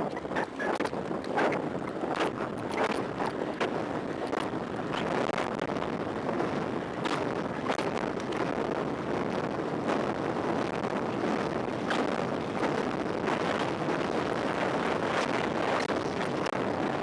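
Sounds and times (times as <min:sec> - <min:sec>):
wind over microphone: 0:00.0 - 0:17.0.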